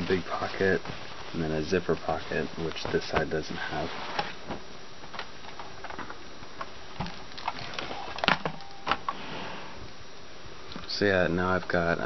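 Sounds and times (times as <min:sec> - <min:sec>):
cloth rustling: 0:00.0 - 0:09.8.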